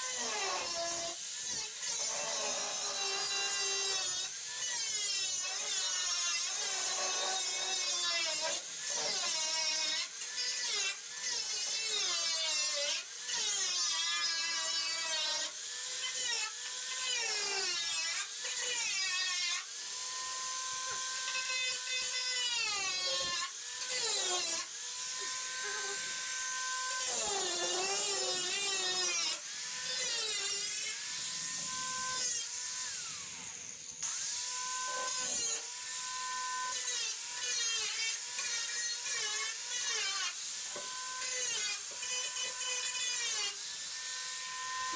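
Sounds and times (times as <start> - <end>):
power tool cutting sheet metal: 0.0 - 44.9.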